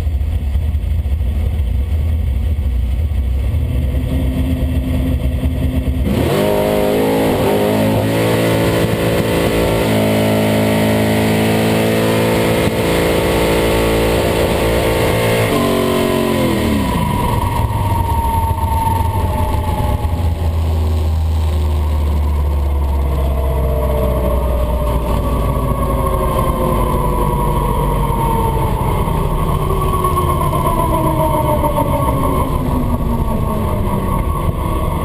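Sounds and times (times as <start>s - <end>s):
car engine revving: 0.0s - 35.0s
falling whine: 0.0s - 35.0s
low engine rumble: 0.0s - 35.0s.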